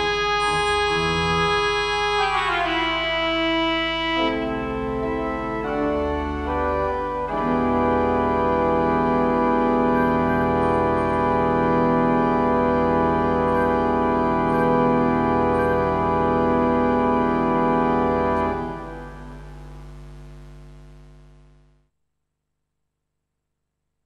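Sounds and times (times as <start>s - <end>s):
pipe organ chord: 0.0s - 20.2s
low organ pedal note: 0.0s - 21.7s.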